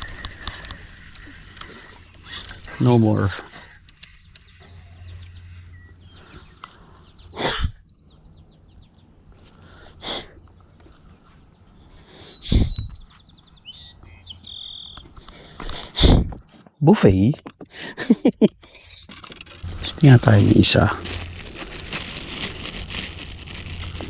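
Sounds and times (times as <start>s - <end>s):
small birds chirping: 0.0s - 15.8s, 19.6s - 24.0s.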